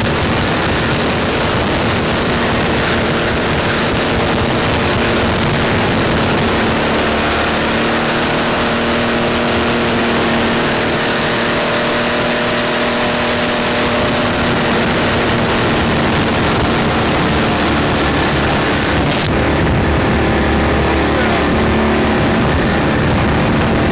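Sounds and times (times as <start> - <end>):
buggy engine running: 0.0 - 23.9.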